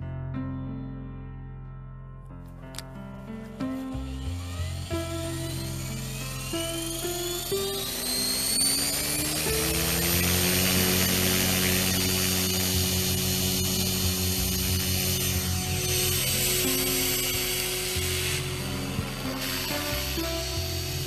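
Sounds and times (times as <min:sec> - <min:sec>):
electric helicopter motor whine: 0:03.2 - 0:21.0.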